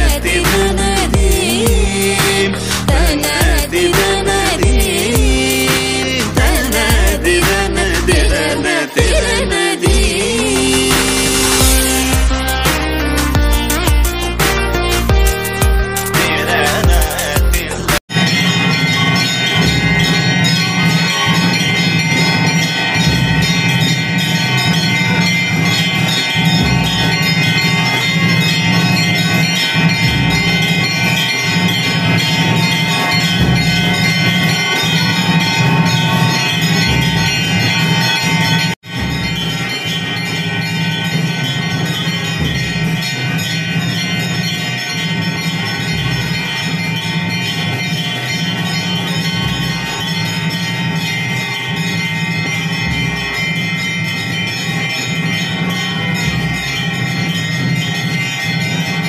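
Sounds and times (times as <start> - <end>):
temple bells ringing: 0.0 - 59.0.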